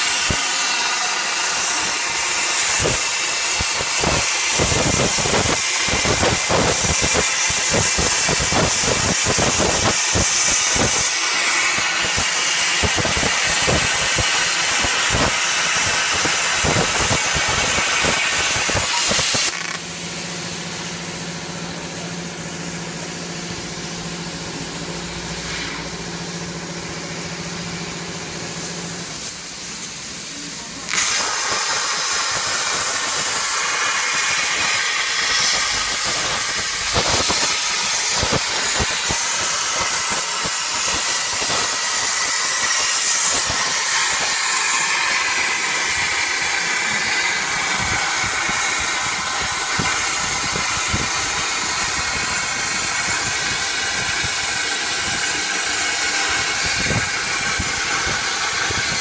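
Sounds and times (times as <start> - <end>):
plasma torch hissing and crackling: 0.0 - 59.0.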